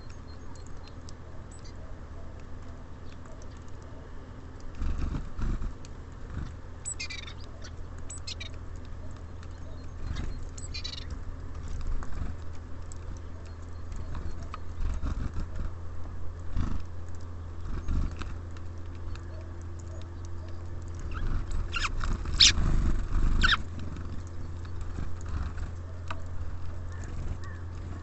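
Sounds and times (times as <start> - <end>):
small birds chirping: 0.0 - 28.0
steady low hum: 0.0 - 28.0
birds landing and pecking: 0.1 - 28.0.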